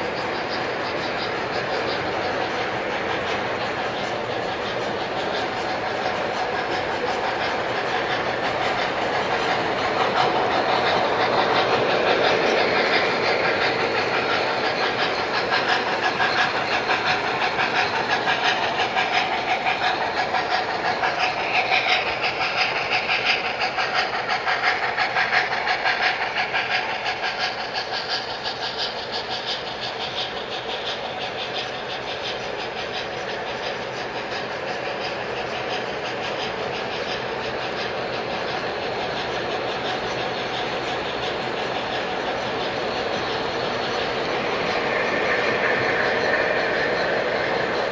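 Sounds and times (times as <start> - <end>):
model train wheels clattering: 0.0 - 47.9.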